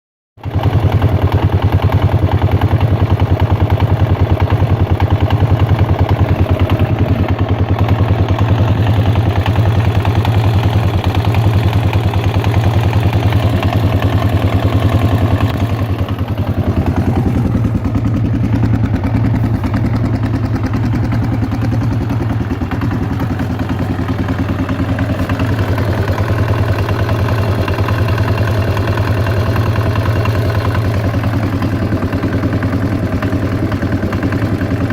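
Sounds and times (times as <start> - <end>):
motorcycle engine idling: 0.4 - 34.9.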